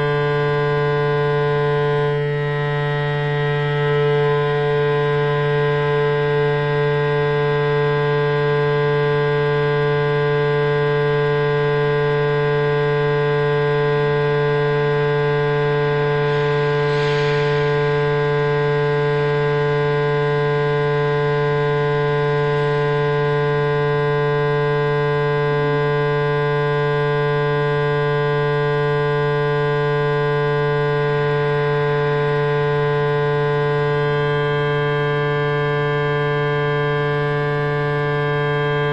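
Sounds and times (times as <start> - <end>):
drone of held tones: 0.0 - 38.9.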